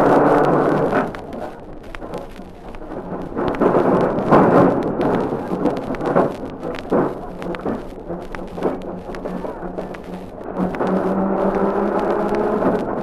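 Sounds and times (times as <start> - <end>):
disc crackle and clicks: 0.0 - 13.0
electric tram rumbling: 0.0 - 13.0.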